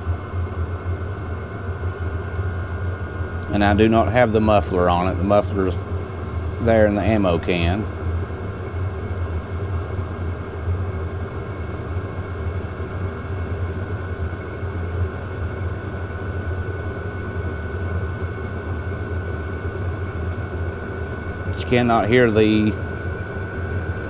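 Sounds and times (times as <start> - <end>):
diesel heater humming and whining: 0.0 - 24.0.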